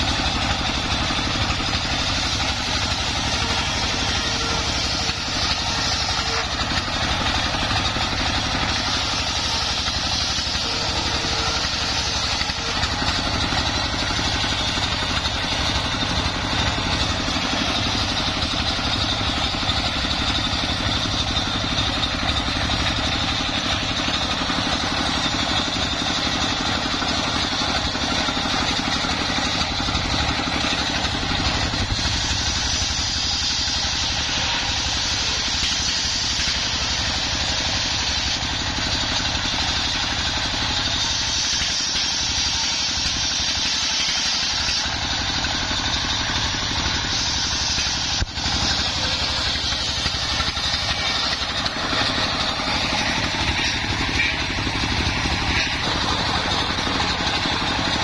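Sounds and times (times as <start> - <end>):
circular saw cutting log: 0.0 - 58.0
diesel engine running: 0.0 - 58.0.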